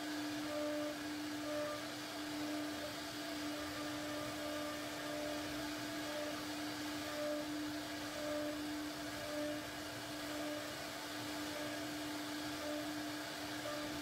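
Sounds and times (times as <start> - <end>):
router spindle humming: 0.0 - 14.0.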